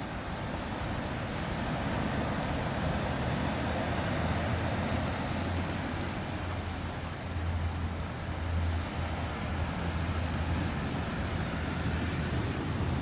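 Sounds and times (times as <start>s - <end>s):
continuous low rumble: 0.0s - 13.0s
steady rain falling: 0.0s - 13.0s.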